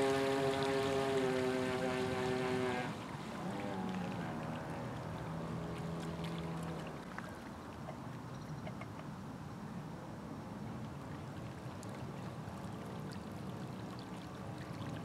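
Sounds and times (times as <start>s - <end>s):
model boat motor on water: 0.0s - 15.0s.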